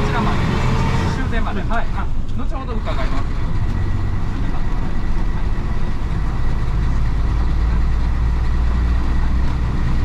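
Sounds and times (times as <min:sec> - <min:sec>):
diesel bus engine rumbling: 0:00.0 - 0:10.0.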